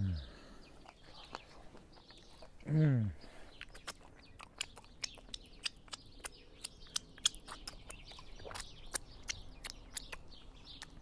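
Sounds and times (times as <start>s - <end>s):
small birds chirping: 0.0s - 11.0s
fingers being licked: 0.8s - 2.6s, 3.6s - 11.0s
lips smacking: 0.8s - 2.8s, 3.5s - 11.0s.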